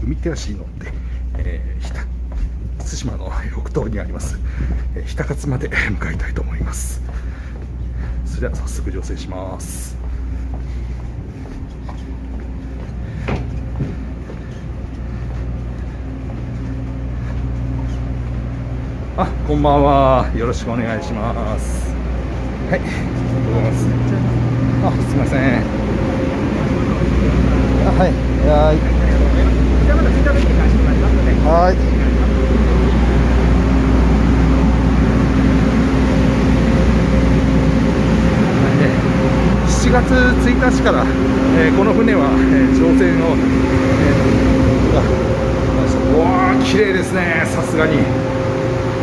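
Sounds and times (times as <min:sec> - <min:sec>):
constant hum: 0:00.0 - 0:49.0
low mechanical drone: 0:00.0 - 0:49.0.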